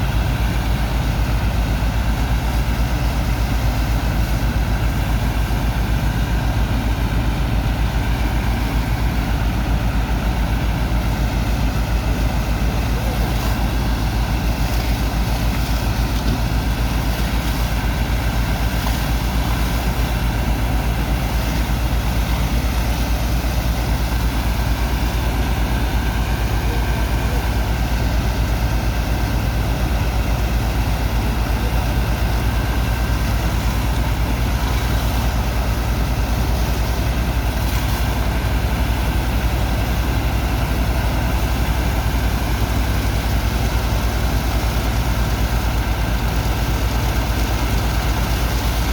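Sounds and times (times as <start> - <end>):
heavy pump engine rumbling: 0.0 - 48.9.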